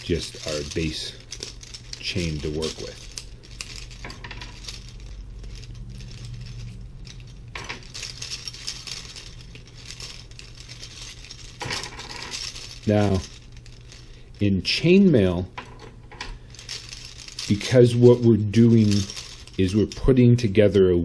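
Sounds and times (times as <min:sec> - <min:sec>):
chain rings clinking and jingling: 0:00.0 - 0:20.7.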